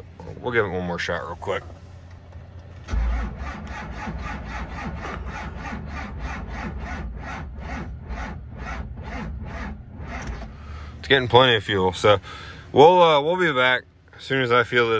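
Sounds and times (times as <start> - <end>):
diesel engine cranking: 0.0 - 13.0.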